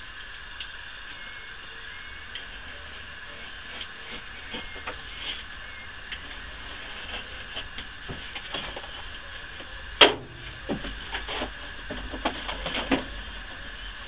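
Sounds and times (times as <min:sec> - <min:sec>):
steady workshop hum: 0:00.0 - 0:14.0.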